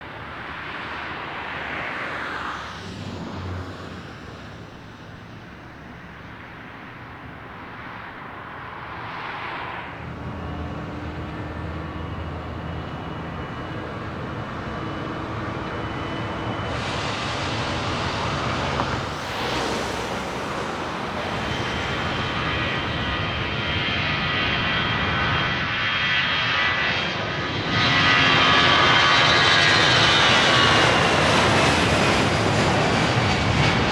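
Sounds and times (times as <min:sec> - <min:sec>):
high jet whine: 0:00.0 - 0:33.9
jet engines of airliner: 0:00.0 - 0:33.9.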